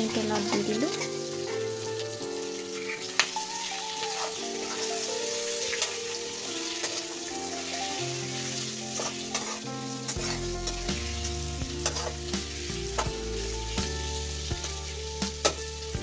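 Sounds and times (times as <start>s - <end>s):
meat sizzling in hot oil: 0.0s - 16.0s
metal spatula scraping a pan: 2.5s - 15.8s.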